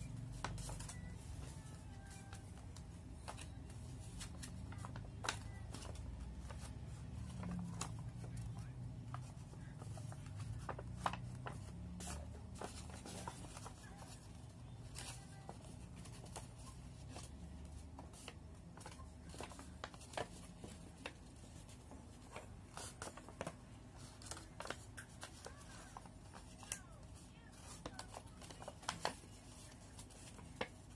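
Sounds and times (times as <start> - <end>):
paper rustling and creasing: 0.1 - 30.9.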